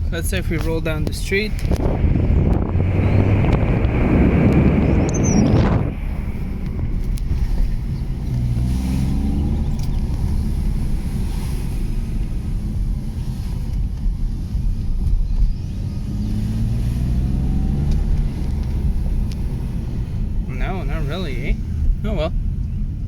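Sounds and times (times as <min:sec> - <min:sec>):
car engine rumbling and accelerating: 0:00.0 - 0:23.0.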